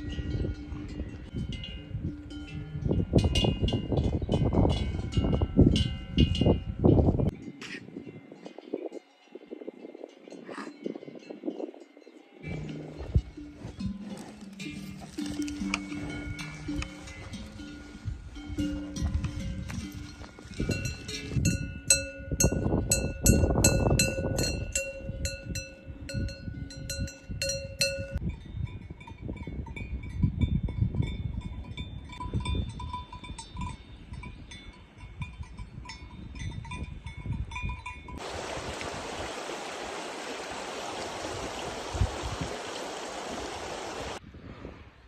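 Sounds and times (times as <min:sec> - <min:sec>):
cowbells clanking: 0:00.0 - 0:38.2.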